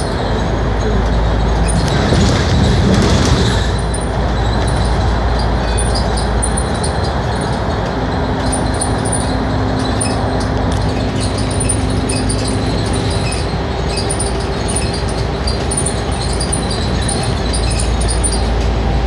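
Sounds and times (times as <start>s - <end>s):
bus diesel engine drone: 0.0s - 19.0s
faint high ticking rattles: 0.0s - 19.0s
tyre and road noise: 0.0s - 19.0s.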